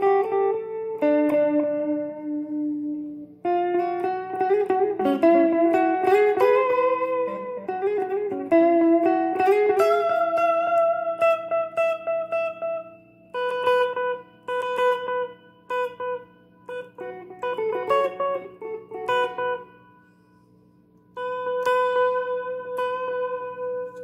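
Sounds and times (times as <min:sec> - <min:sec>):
electric guitar picking: 0:00.0 - 0:24.0.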